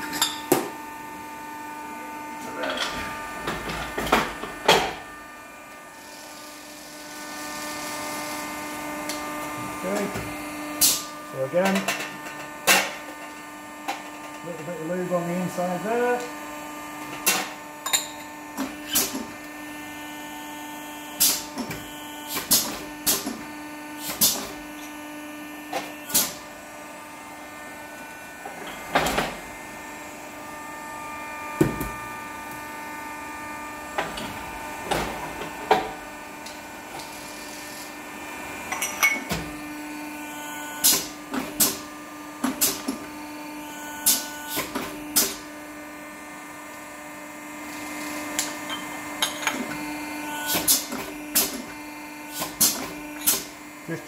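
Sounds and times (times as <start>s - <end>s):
hydraulic machine hum: 0.0s - 54.0s.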